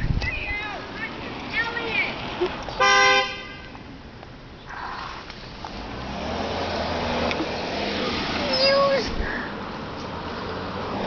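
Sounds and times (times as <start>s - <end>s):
car engine and tyres hum: 0.0s - 11.0s.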